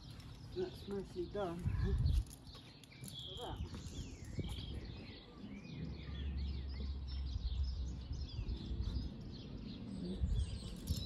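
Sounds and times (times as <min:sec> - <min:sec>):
small birds chirping and singing: 0:00.0 - 0:11.0.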